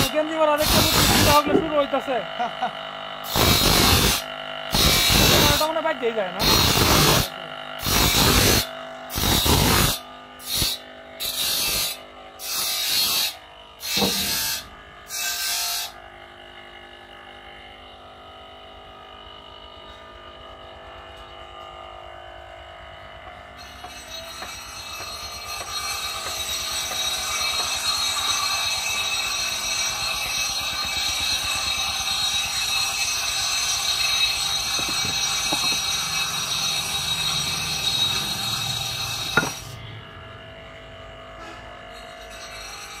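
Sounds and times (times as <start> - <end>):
bench grinder grinding blade: 0.0 - 43.0
machine noise with held tones: 0.0 - 43.0
motor hum: 0.0 - 43.0.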